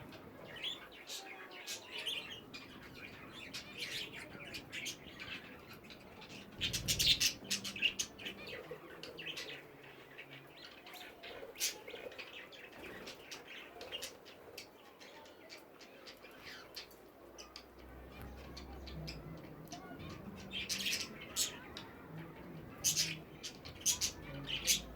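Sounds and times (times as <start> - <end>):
budgerigars chirping and chattering: 0.0 - 24.9.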